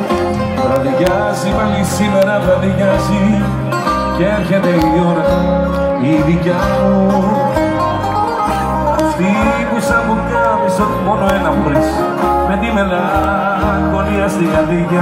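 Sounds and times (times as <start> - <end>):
live band playing: 0.0 - 15.0
plucked string melody: 0.0 - 15.0.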